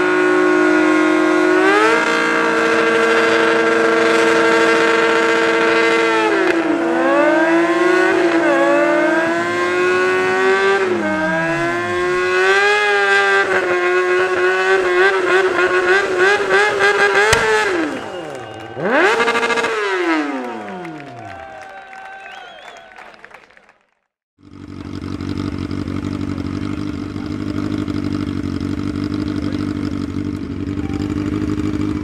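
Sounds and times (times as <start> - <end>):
motorbike engine revving high: 0.0 - 21.1, 24.4 - 32.0.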